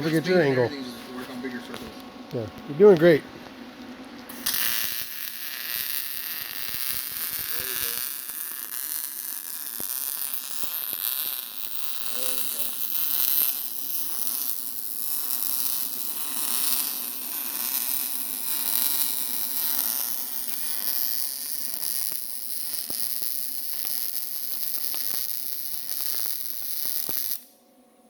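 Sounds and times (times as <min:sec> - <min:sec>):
welder arc hiss and buzz: 0:01.5 - 0:27.6
welding crackles: 0:03.8 - 0:27.5.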